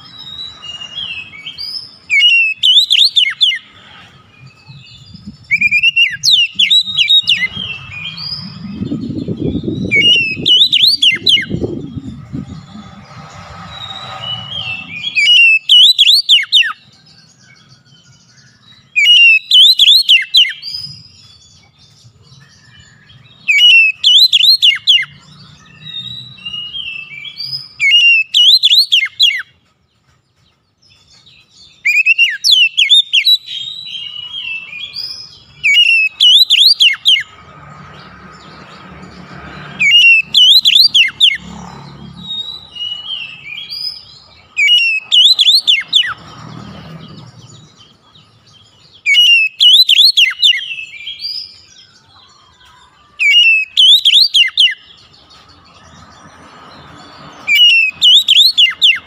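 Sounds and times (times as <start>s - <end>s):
bird whistling song: 0.0s - 3.8s, 4.4s - 37.4s, 38.3s - 59.0s.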